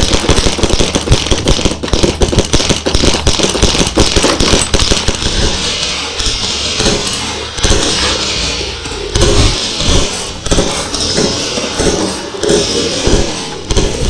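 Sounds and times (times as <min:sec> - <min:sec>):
airsoft guns firing rapidly: 0:00.0 - 0:14.0.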